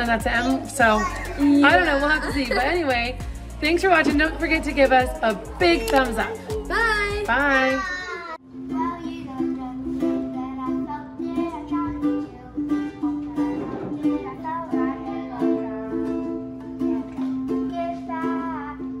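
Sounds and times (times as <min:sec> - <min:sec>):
plucked ukulele music: 0:00.0 - 0:07.5, 0:08.4 - 0:19.0.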